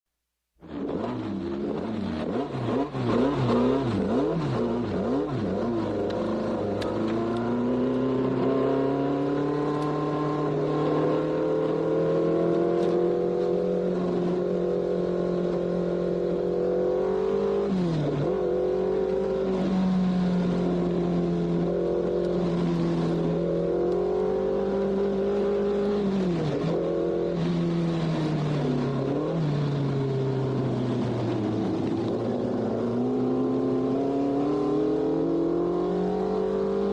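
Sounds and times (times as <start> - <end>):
racing car engine revving: 0.6 - 36.9.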